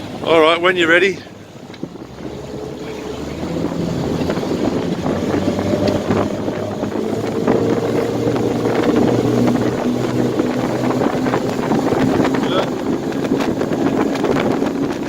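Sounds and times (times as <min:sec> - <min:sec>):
outboard motors throttling up: 0:00.0 - 0:15.0
water rushing past hull: 0:00.0 - 0:15.0
wind on microphone: 0:00.0 - 0:15.0.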